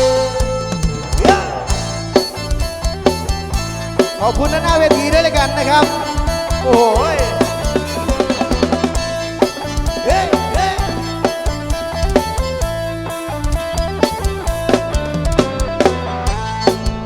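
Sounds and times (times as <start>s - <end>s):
bass line: 0.0s - 17.0s
drum kit beat: 0.0s - 17.0s
electric instrument melody: 0.0s - 17.0s
live band dance music: 0.0s - 17.0s.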